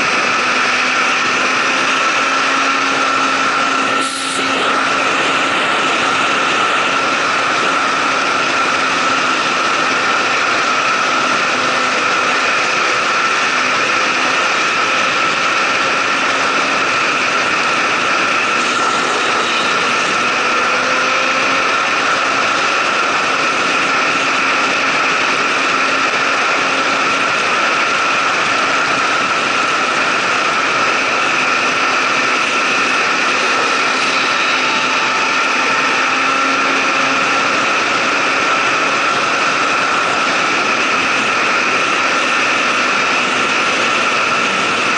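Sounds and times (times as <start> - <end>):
motorcycle engine cruising: 0.0 - 44.9
wind and road noise: 0.0 - 44.9.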